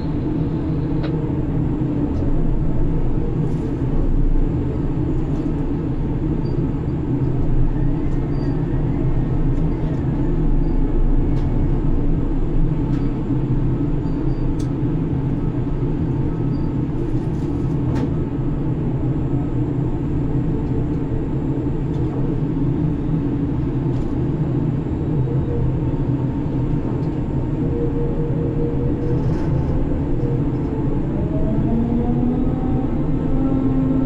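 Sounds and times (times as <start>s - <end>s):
crane machinery drone: 0.0s - 34.0s.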